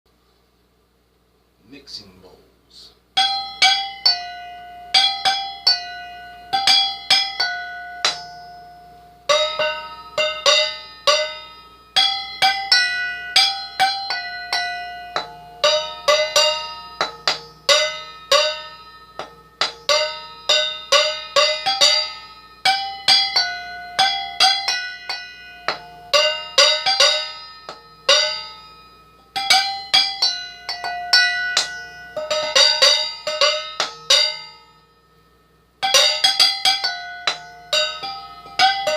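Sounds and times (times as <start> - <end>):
mixing bowls ringing when struck: 3.2 - 38.9.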